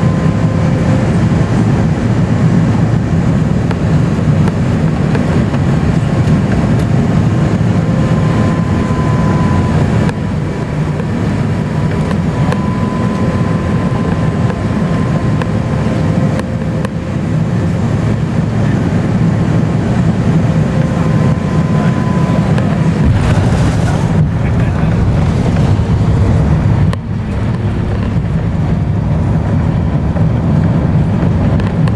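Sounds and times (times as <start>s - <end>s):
airplane cabin rumble: 0.0s - 31.9s
faint jet engine whine: 0.0s - 31.9s.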